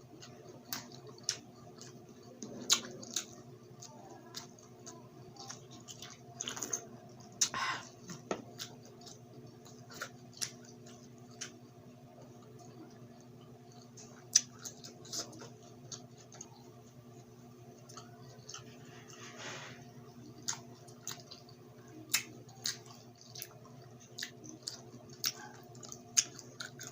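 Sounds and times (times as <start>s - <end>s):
crunchy chewing: 0.0s - 26.9s
steady low hum: 0.0s - 26.9s.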